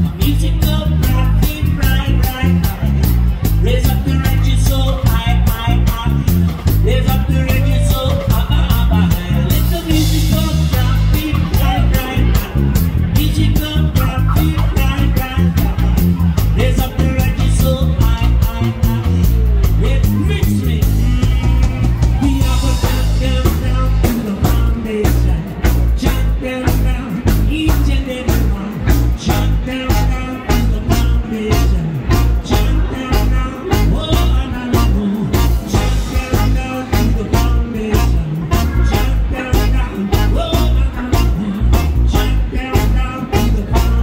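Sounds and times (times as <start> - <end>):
bass: 0.0 - 44.0
electric guitar: 0.0 - 44.0
man singing: 0.0 - 44.0
steady drum beat: 0.0 - 44.0
trombone and saxophone horn line: 0.0 - 44.0.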